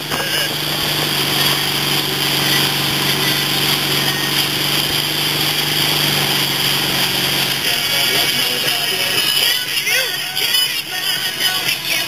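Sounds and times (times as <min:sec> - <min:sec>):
boat engine humming: 0:00.0 - 0:12.0
churning wake water: 0:00.0 - 0:12.0.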